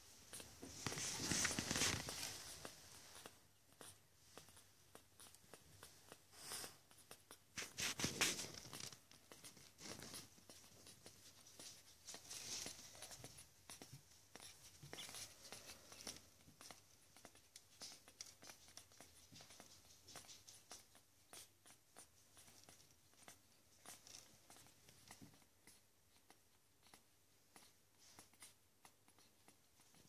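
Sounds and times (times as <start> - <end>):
puppies nursing clicking: 0.0 - 30.0.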